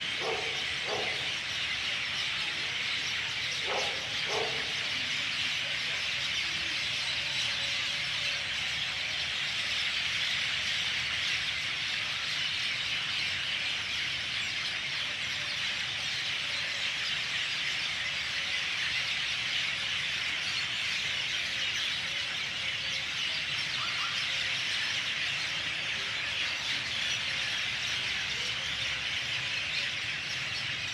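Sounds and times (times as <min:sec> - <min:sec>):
birds chirping in chorus: 0:00.0 - 0:30.9.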